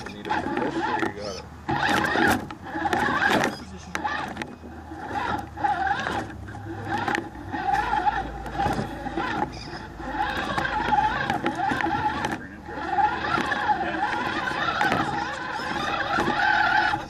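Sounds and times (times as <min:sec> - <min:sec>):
electric motor and gearbox whining: 0:00.0 - 0:17.0
tyres clicking and knocking on rocks: 0:00.0 - 0:17.0.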